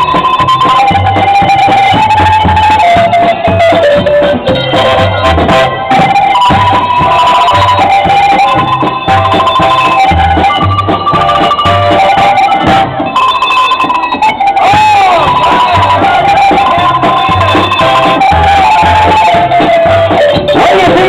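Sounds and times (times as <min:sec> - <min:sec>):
cowbell melody: 0:00.0 - 0:21.0
music with steady bass beat: 0:00.0 - 0:21.0.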